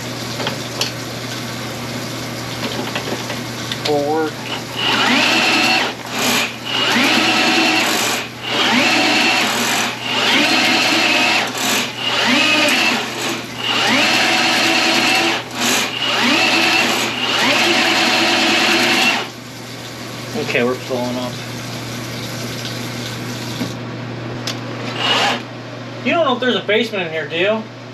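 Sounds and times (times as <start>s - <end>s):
drain machine whining: 0.0s - 23.8s, 24.9s - 25.5s.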